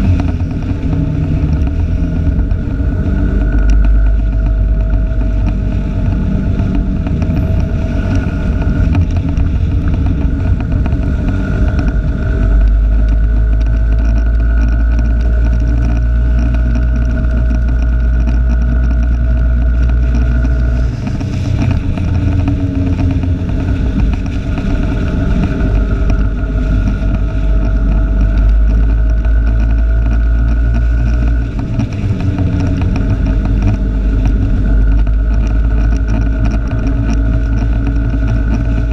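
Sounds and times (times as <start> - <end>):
vehicle engine hum with whine: 0.0 - 38.9
wind rumble on microphone: 0.0 - 38.9.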